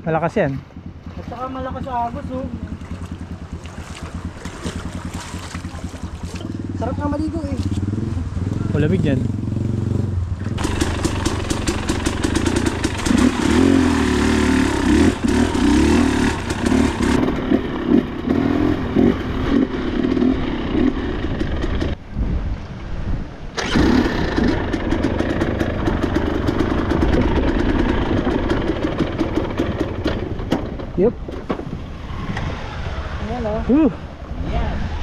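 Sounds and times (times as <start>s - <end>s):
dirt bike engine revving: 0.2s - 22.0s, 23.6s - 30.3s.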